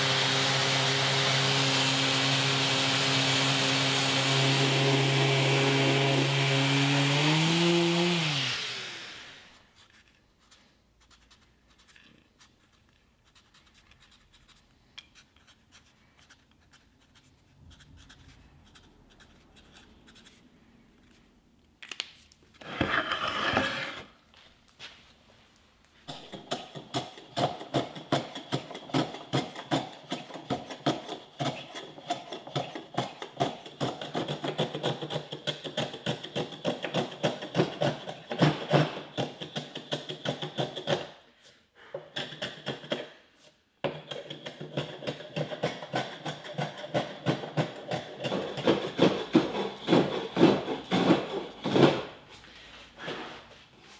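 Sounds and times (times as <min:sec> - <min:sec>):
hand tool scraping wood: 0:00.1 - 0:21.2, 0:22.5 - 0:24.2, 0:26.1 - 0:53.9.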